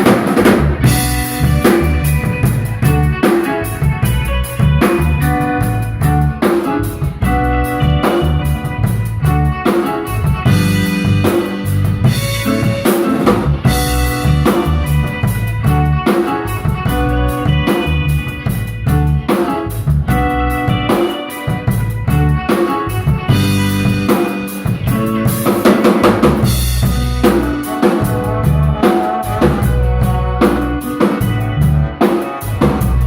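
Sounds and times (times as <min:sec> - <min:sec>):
bass line: 0:00.0 - 0:33.0
drum kit beat: 0:00.0 - 0:33.0
live band playing: 0:00.0 - 0:33.0.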